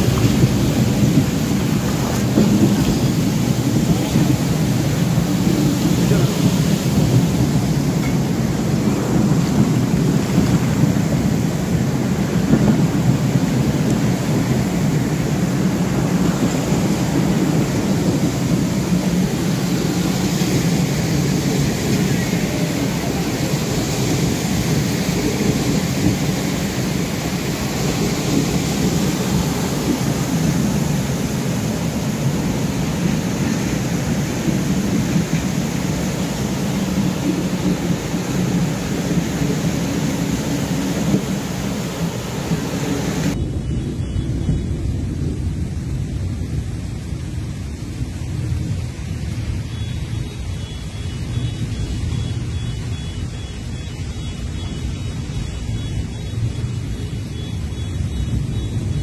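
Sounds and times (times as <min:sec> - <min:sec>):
deep train rumble: 0:00.0 - 0:59.0
train splashing through water: 0:00.0 - 0:59.0.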